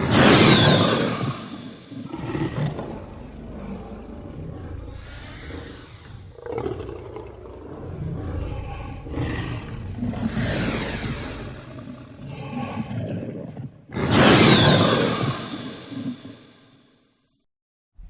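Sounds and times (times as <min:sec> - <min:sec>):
dinosaur roars and growls: 0:00.0 - 0:16.7.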